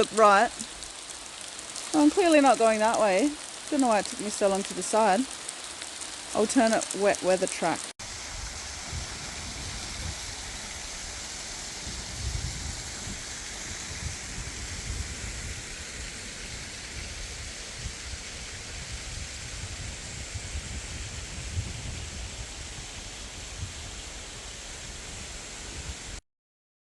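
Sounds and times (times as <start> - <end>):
rain on foliage: 0.0 - 26.2.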